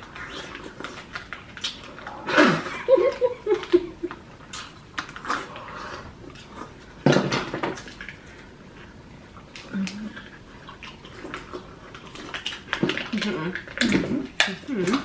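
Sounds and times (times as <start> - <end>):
wet chewing and smacking: 0.0 - 2.3, 3.0 - 15.0.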